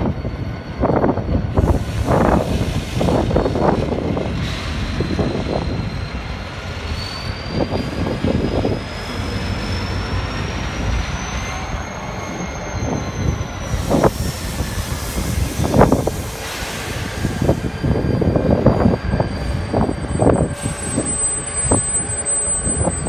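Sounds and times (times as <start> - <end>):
freight train rumbling past: 0.0 - 23.0
high wheel squeal: 0.0 - 23.0.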